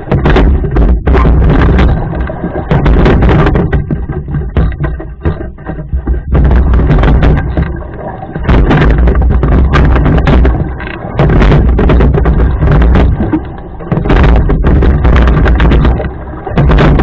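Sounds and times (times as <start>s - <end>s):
short knocks: 0.0s - 17.0s
wind buffeting microphone: 0.0s - 17.0s.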